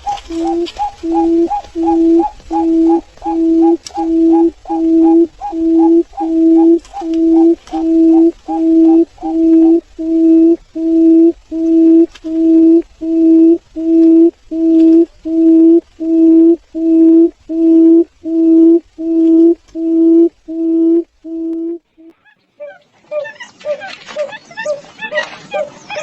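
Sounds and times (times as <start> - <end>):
bird low hooting calls: 0.0 - 26.0.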